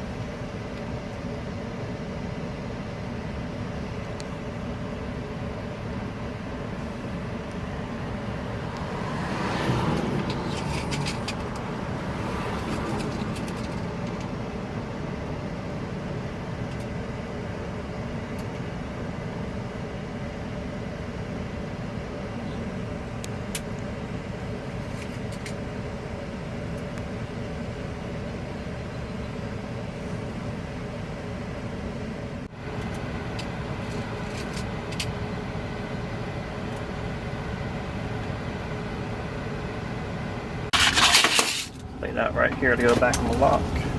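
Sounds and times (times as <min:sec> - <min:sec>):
vehicle engine idling: 0:00.0 - 0:43.9.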